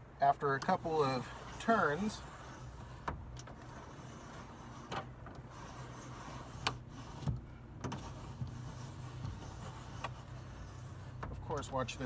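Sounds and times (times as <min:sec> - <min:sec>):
steady low hum: 0:00.0 - 0:12.0
window crank winding glass: 0:00.6 - 0:11.7.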